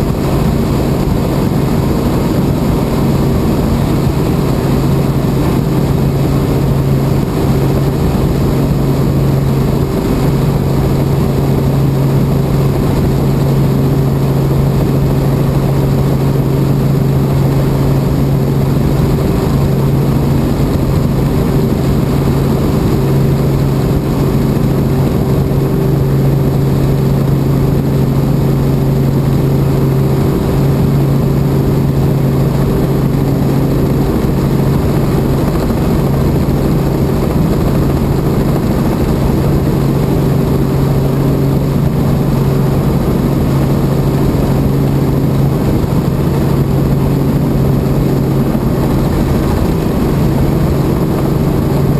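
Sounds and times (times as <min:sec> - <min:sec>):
helicopter drone from inside cabin: 0:00.0 - 0:51.9.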